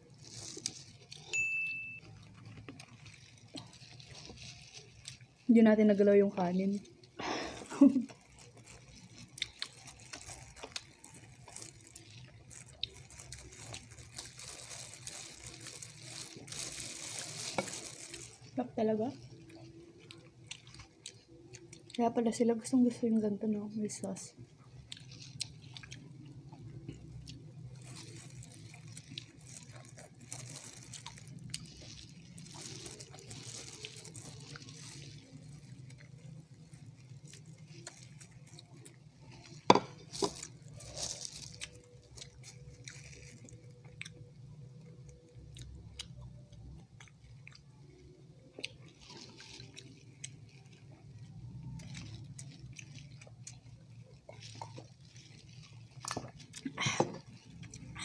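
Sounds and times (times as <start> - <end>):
chewing and wet mouth sounds: 0.0 - 58.0.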